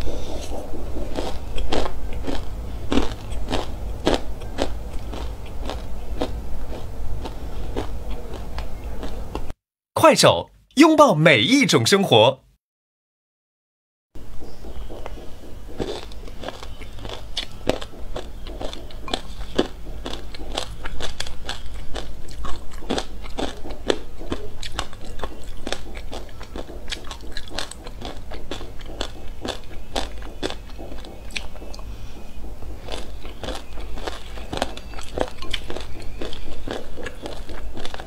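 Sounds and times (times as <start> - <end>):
chewing crunchy seeds: 0.0 - 9.6, 14.8 - 38.0.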